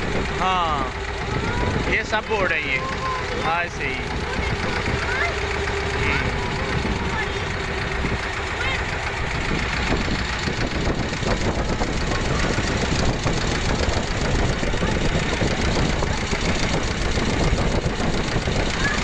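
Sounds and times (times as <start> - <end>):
boat engine running: 0.0 - 19.0
choppy water: 0.0 - 19.0
wind: 0.0 - 19.0.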